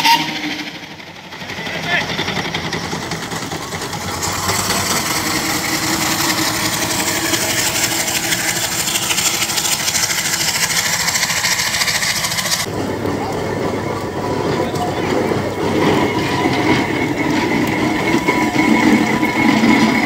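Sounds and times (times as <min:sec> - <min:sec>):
steam hissing: 0:00.0 - 0:12.8, 0:14.0 - 0:20.0
steam engine beat: 0:00.0 - 0:20.0.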